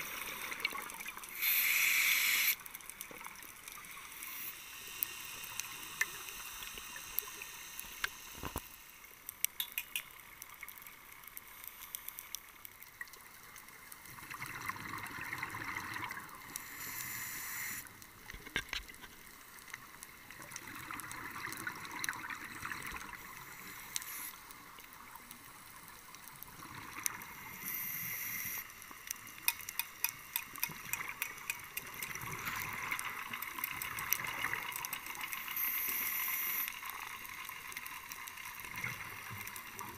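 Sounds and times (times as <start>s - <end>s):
sharp clicks and crackles: 0.1s - 14.2s, 16.2s - 22.2s, 22.8s - 39.9s.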